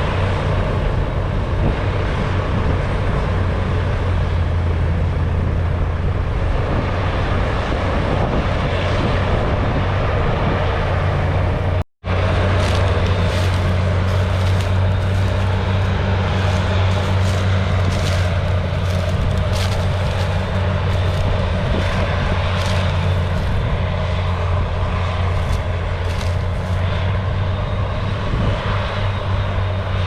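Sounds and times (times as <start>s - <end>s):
diesel machinery engine drone: 0.0s - 30.0s.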